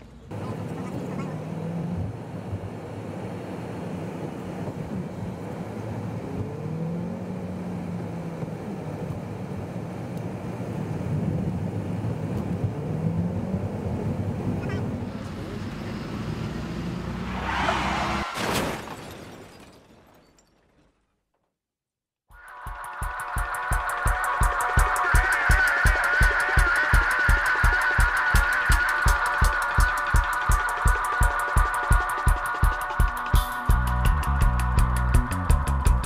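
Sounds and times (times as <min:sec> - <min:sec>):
car engine running: 0:00.0 - 0:18.2, 0:22.7 - 0:36.0.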